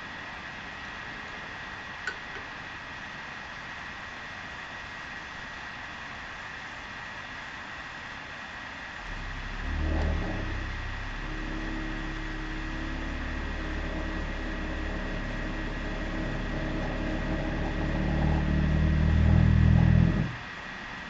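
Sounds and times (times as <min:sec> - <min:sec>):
gas boiler humming: 0:00.0 - 0:21.0.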